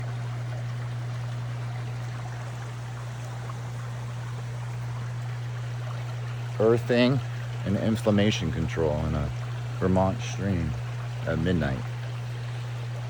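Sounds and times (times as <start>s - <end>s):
brook water rushing: 0.0s - 13.0s.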